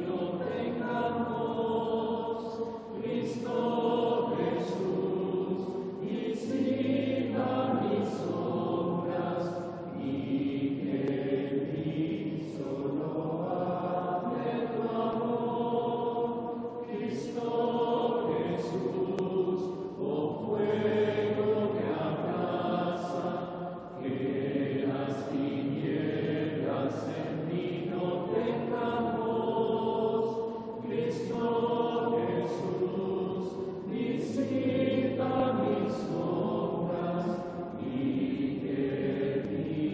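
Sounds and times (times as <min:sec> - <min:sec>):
congregation singing a chant: 0:00.0 - 0:39.9.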